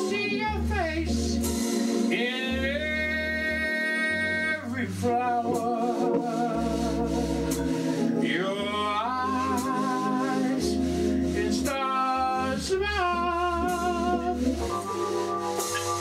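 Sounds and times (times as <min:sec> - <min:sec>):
man singing with vibrato: 0:00.0 - 0:01.4, 0:02.1 - 0:07.2, 0:08.0 - 0:14.6
organ sustained chords: 0:00.0 - 0:16.0
walking bass line: 0:00.0 - 0:16.0.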